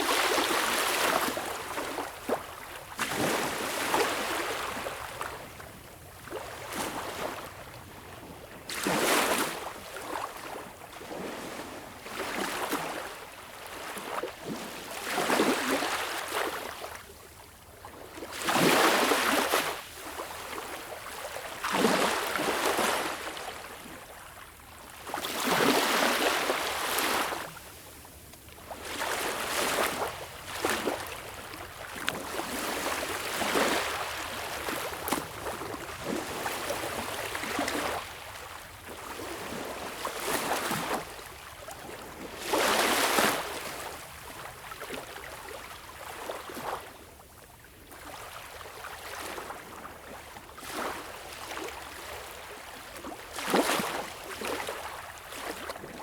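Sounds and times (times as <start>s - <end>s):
small waves lapping on beach: 0.0s - 56.0s.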